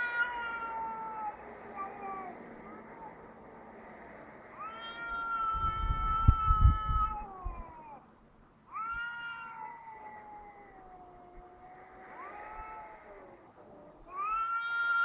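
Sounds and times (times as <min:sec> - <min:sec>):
cats yowling: 0:00.0 - 0:03.4, 0:04.5 - 0:08.1, 0:08.7 - 0:15.0.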